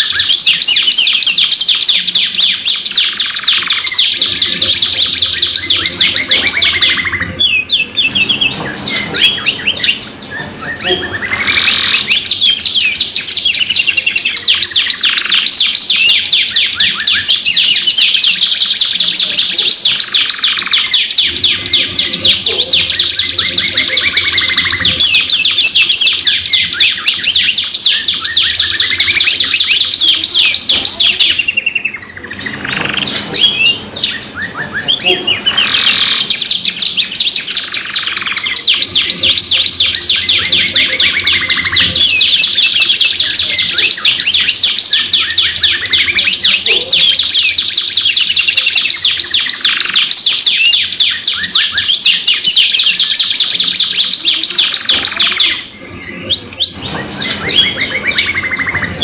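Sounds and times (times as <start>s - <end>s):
canaries singing rolling trills: 0.0s - 59.0s.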